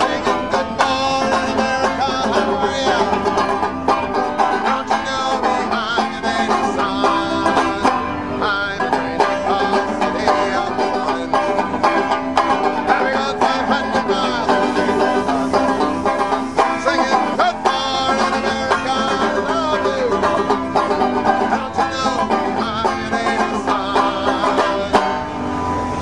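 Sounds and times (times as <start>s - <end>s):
bluegrass banjo picking: 0.0s - 26.0s.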